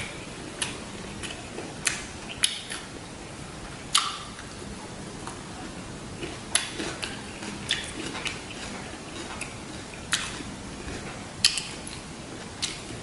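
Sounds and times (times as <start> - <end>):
wet chewing sounds: 0.0 - 3.0, 3.9 - 13.0.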